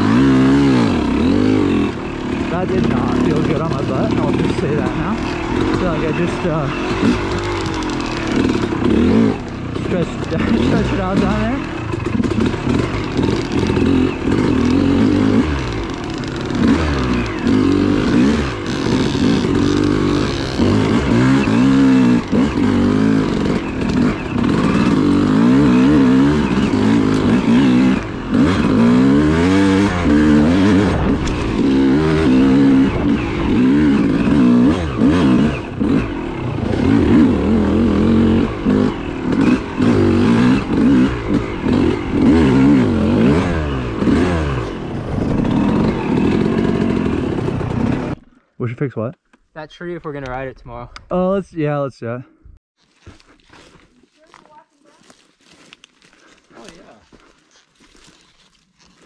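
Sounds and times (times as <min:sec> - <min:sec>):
dirt bike engine revving: 0:00.0 - 0:48.4.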